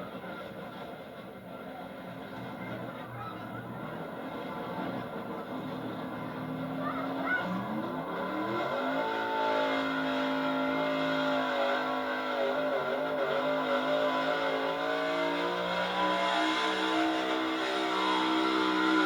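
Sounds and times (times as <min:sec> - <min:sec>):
truck engine revving: 0:02.2 - 0:19.0.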